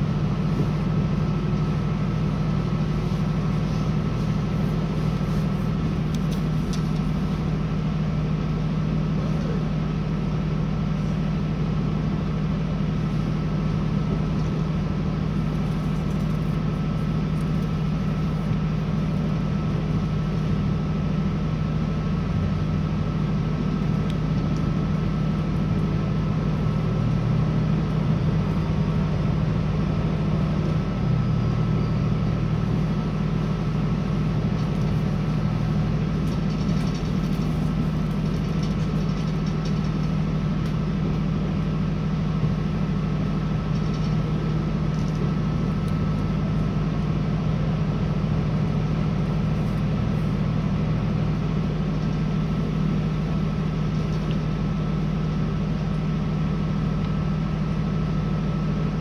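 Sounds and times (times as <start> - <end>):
train engine and wheels drone: 0.0 - 59.0.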